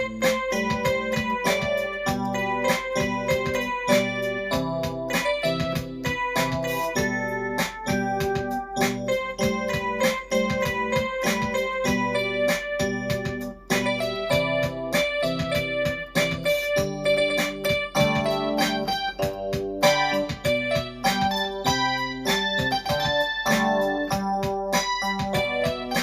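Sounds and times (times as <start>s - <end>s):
electric piano playing pop song: 0.0s - 26.0s
keyboard drum rhythm: 0.0s - 26.0s.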